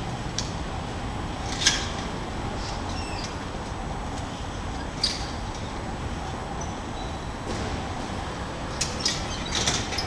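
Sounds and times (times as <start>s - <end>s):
distant traffic rumble: 0.0s - 10.0s.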